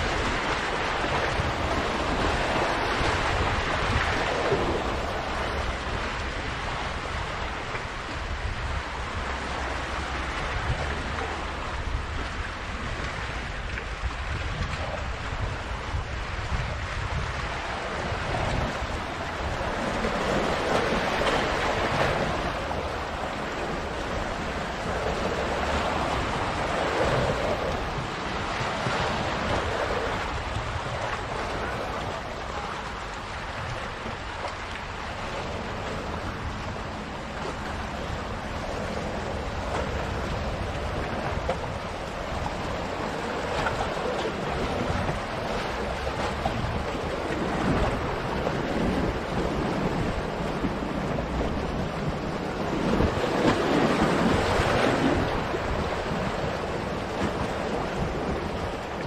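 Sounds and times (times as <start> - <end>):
surf breaking on rocky shore: 0.0 - 59.0.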